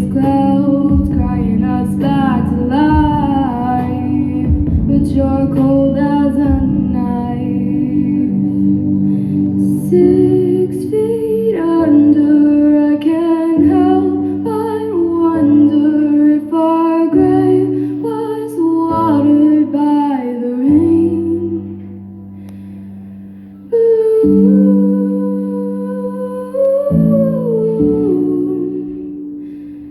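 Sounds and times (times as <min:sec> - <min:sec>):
woman singing wordless melody: 0:00.0 - 0:22.6, 0:23.4 - 0:29.9
soft sustained backing track: 0:00.0 - 0:29.9.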